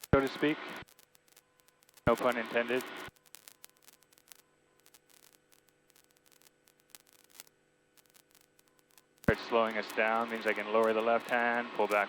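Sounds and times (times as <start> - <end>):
crackling static: 0.0 - 12.0
faint steady hum: 0.0 - 12.0
small clicks: 0.0 - 12.0.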